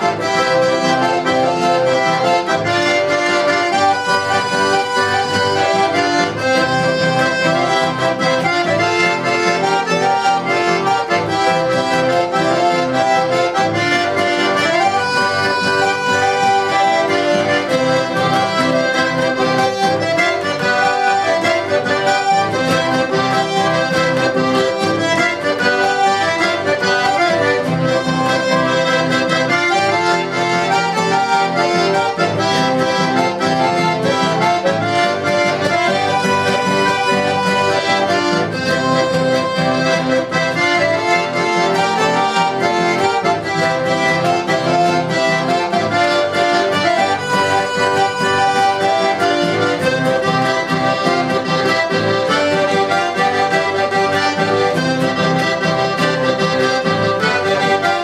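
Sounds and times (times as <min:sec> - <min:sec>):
acoustic guitar strumming: 0:00.0 - 0:58.0
button accordion melody: 0:00.0 - 0:58.0.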